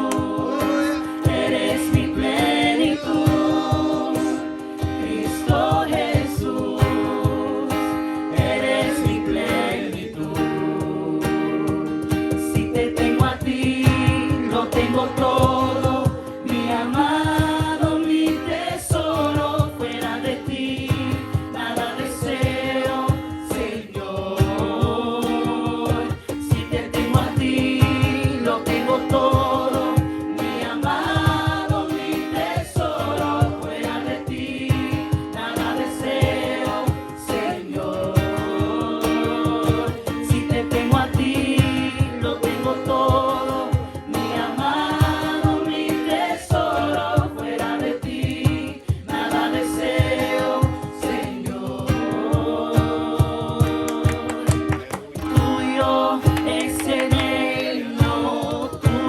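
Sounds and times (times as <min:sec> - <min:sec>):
group singing worship song: 0:00.0 - 0:59.0
instrumental accompaniment with beat: 0:00.0 - 0:59.0.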